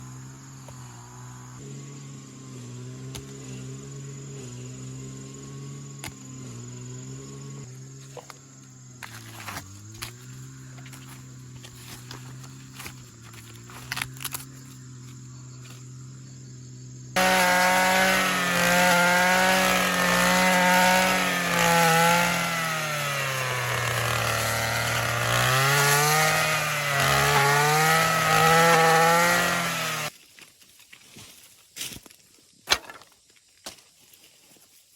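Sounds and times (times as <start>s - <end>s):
small engine running hard: 0.0s - 30.1s.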